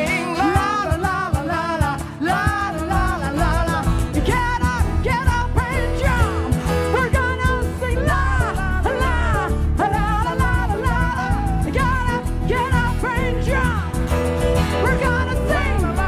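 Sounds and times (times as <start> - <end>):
band with guitar and bass: 0.0 - 16.0
woman singing with vibrato: 0.0 - 16.0.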